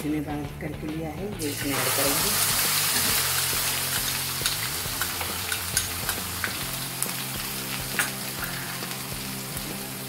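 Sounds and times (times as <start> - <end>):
paste sizzling in hot oil: 1.4 - 10.0.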